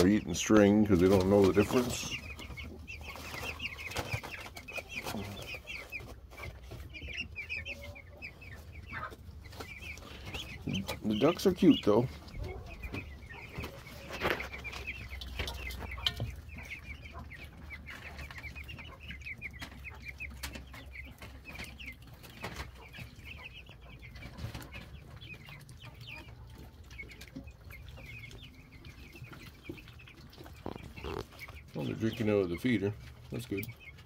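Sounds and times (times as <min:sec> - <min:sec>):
chickens and ducklings peeping: 0:00.0 - 0:34.0.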